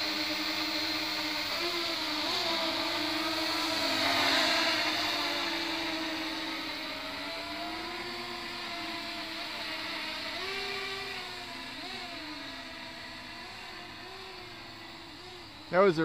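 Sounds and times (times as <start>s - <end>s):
drone motors whirring: 0.0s - 16.0s.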